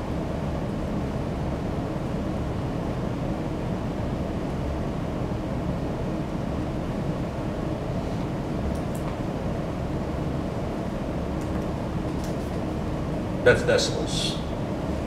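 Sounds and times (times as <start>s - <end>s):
low room rumble: 0.0s - 15.0s.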